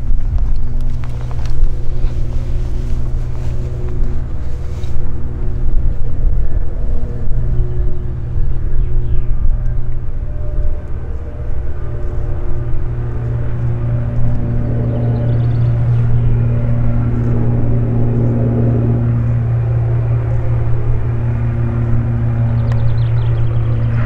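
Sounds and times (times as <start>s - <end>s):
faint steady tones: 0.0s - 24.0s
jet engines droning: 0.0s - 24.0s.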